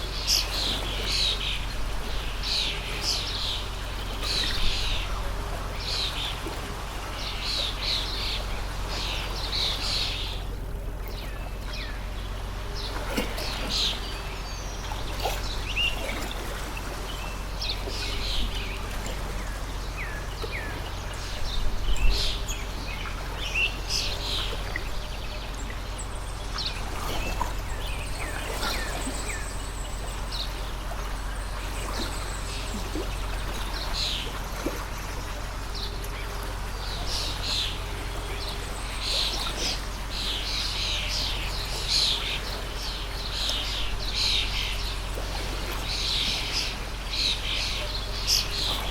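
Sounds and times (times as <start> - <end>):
birds chirping: 0.0 - 48.9
water stream rushing: 0.0 - 48.9.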